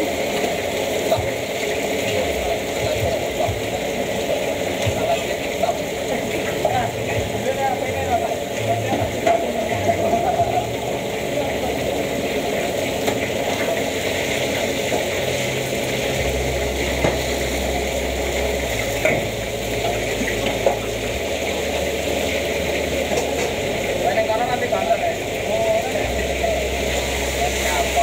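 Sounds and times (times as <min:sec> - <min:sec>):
oil sizzling in wok: 0:00.0 - 0:28.0.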